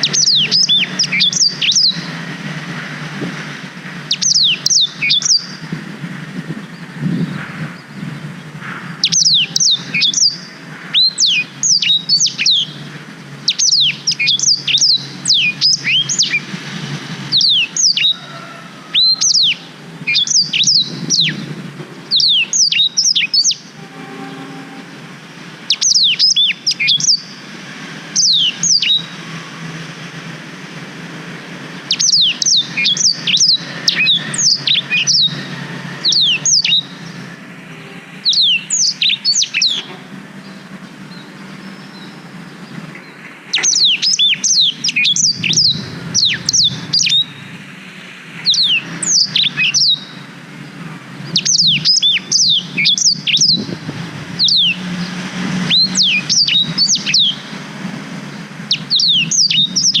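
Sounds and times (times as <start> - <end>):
bird singing: 0.0 - 60.0.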